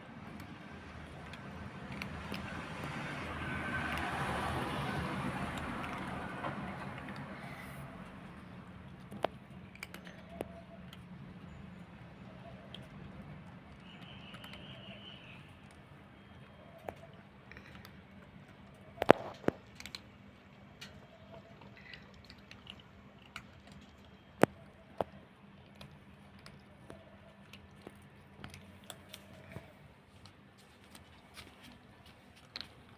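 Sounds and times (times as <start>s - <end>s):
cats crunching dry kibble: 0.0s - 32.9s.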